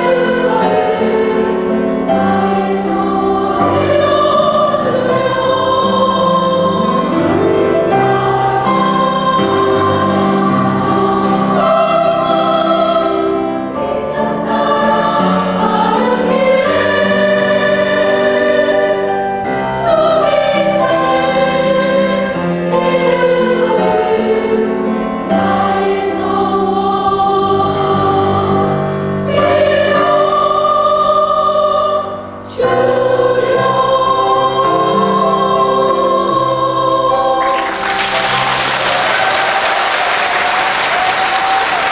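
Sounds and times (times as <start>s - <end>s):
choir singing held chords: 0.0s - 41.9s.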